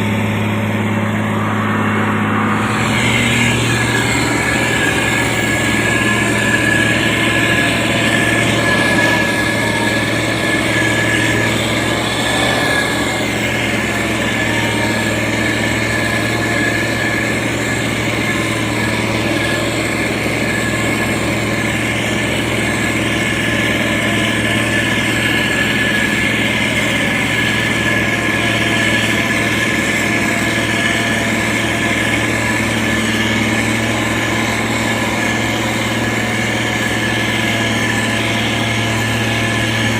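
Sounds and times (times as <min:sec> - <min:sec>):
diesel engine running: 0:00.0 - 0:39.9
thin steady whine: 0:00.0 - 0:39.9.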